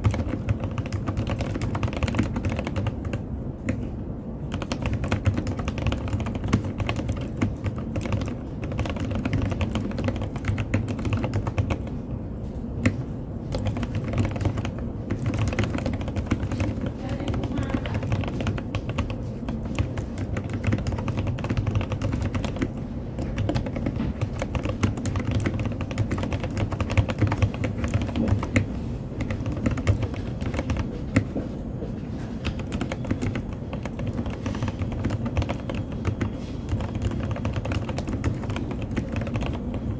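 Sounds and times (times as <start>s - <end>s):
mechanical keyboard typing: 0.0s - 31.7s, 32.3s - 39.9s.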